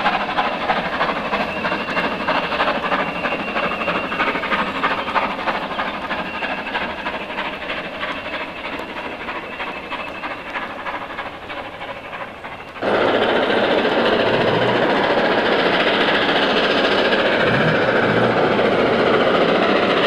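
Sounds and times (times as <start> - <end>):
hiss of steam: 0.0 - 20.0
steam locomotive working hard: 0.0 - 20.0
train wheels clattering on track: 0.0 - 20.0.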